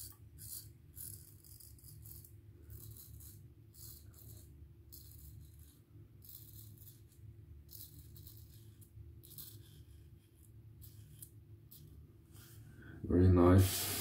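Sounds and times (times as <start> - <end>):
razor scraping stubble: 0.0 - 12.0.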